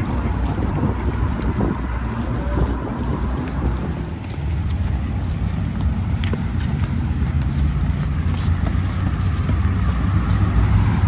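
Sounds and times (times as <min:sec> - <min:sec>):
footsteps on paved path: 0:00.0 - 0:11.0
low rumble: 0:00.0 - 0:11.0.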